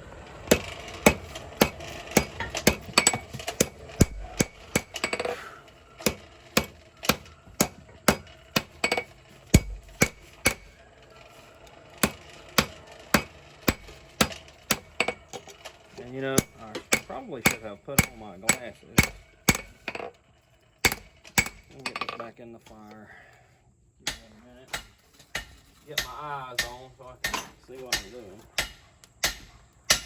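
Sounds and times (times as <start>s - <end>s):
hammer striking hot steel: 0.4s - 10.8s, 12.0s - 20.2s, 20.8s - 22.2s, 24.0s - 30.0s.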